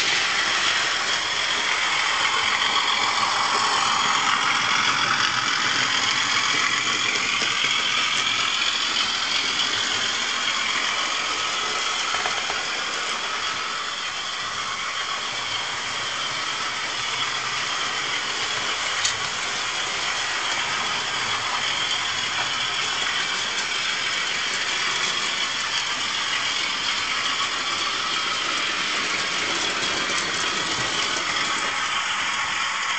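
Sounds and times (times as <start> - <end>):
model trains whirring on track: 0.0 - 32.9.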